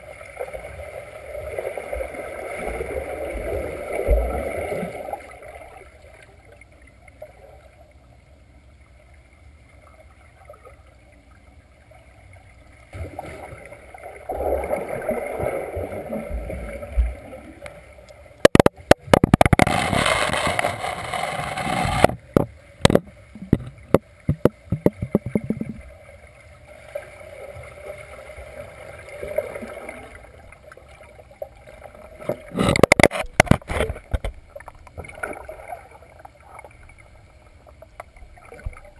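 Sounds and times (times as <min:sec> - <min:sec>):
underwater swimming rushing and gurgling: 0:00.0 - 0:38.9.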